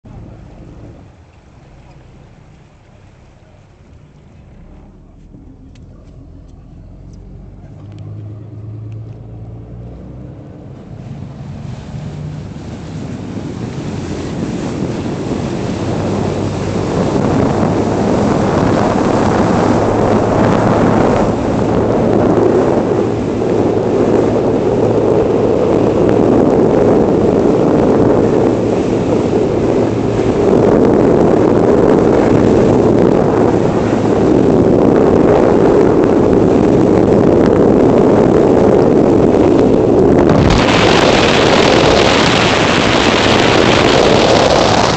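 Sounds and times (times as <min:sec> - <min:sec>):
boat engine running: 0:00.0 - 0:44.9
rushing water: 0:00.0 - 0:44.9
wind noise on microphone: 0:00.0 - 0:44.9.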